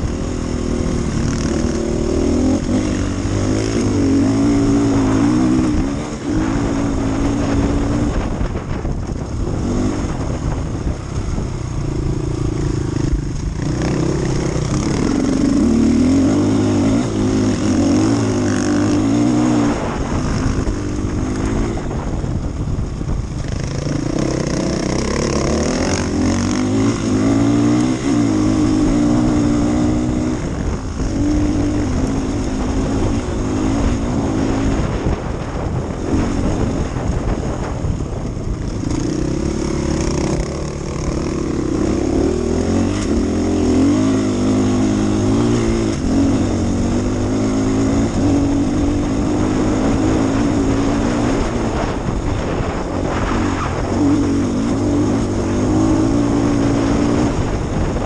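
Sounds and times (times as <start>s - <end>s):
motorcycle engine revving: 0.0s - 58.0s
wind and tyres on gravel: 0.0s - 58.0s.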